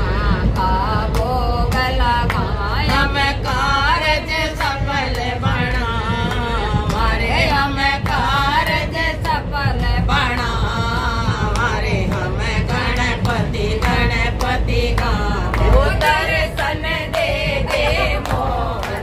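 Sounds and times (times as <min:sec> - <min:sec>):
percussion beat: 0:00.0 - 0:19.0
person singing devotional song: 0:00.0 - 0:19.0.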